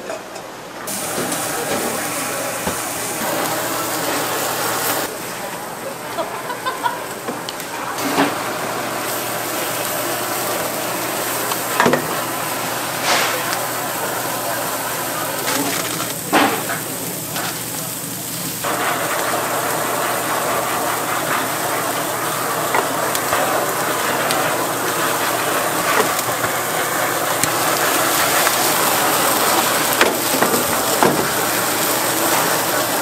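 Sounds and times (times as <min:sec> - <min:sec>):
meat sizzling: 0:00.9 - 0:05.2, 0:06.4 - 0:33.0
blowtorch flame hissing: 0:00.9 - 0:05.4, 0:06.6 - 0:33.0.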